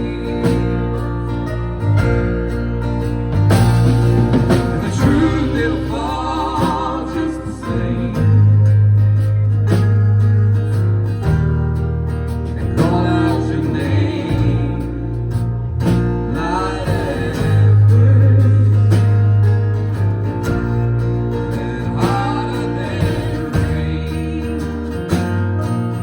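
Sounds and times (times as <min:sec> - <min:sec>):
bass line: 0:00.0 - 0:26.0
guitars: 0:00.0 - 0:26.0.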